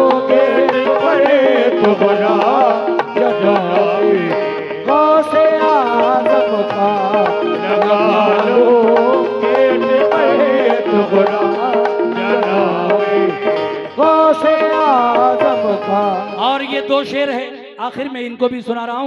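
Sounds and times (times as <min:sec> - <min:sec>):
tabla playing: 0:00.0 - 0:17.8
harmonium melody: 0:00.0 - 0:18.2.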